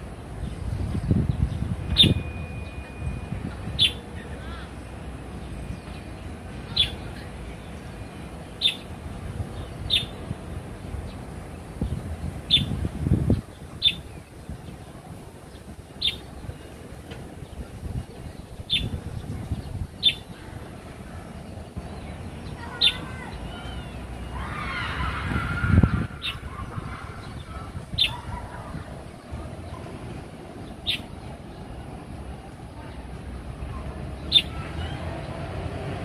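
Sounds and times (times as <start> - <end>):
bird chirping: 0.4 - 10.2, 10.8 - 14.9, 15.5 - 16.8, 17.4 - 20.5, 21.2 - 24.9, 25.8 - 32.0, 33.7 - 35.3.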